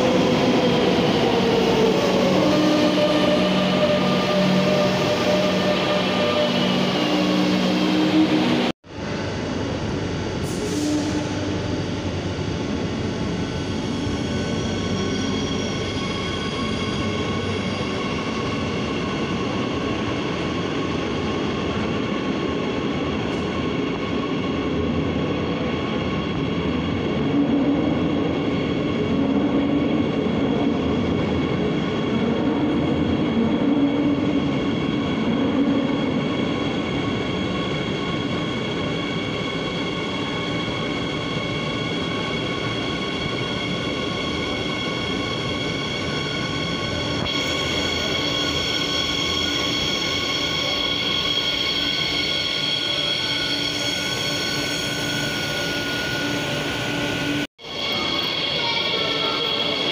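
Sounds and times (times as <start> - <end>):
subway train rail rumble: 0.0 - 59.9
train high whine: 0.0 - 59.9.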